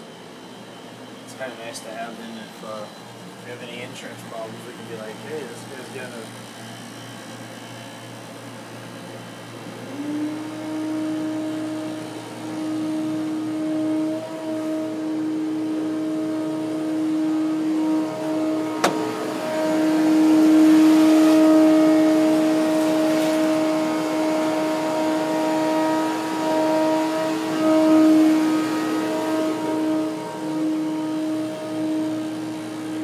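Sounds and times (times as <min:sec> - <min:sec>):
air movers humming: 0:00.0 - 0:33.0.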